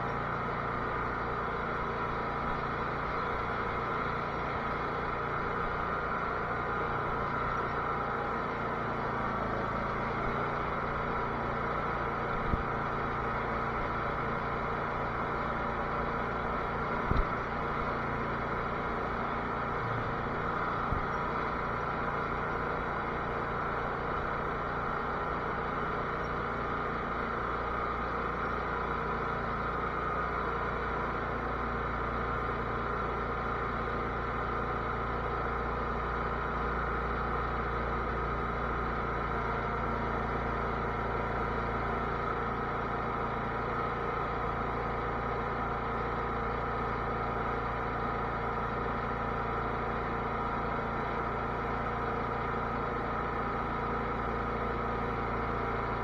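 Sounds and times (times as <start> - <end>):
lawn tractor engine humming: 0.0 - 56.0.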